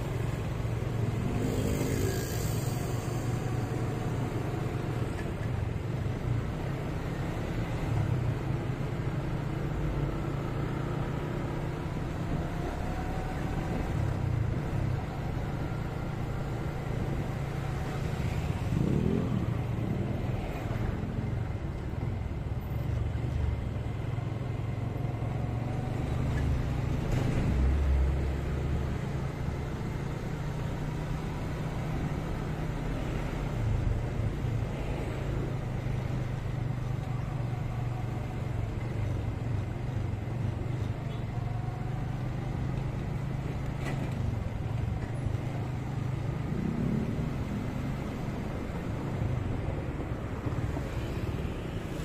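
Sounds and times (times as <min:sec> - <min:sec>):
traffic: 0:00.0 - 0:52.0.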